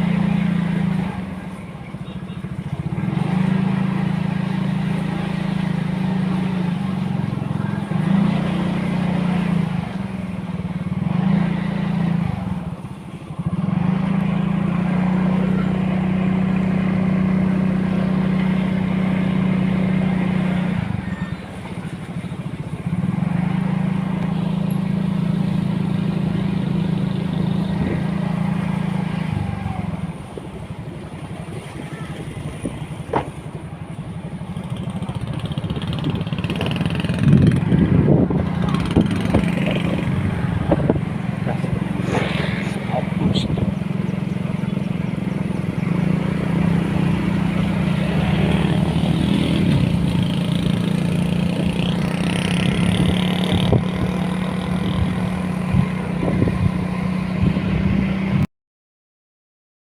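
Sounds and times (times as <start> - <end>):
vehicle engine running: 0.0 - 58.5.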